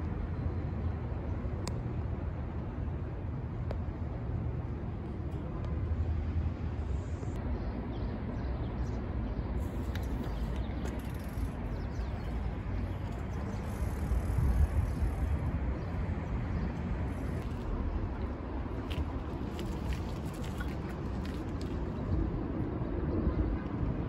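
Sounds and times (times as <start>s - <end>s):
city street ambience: 0.0s - 24.0s.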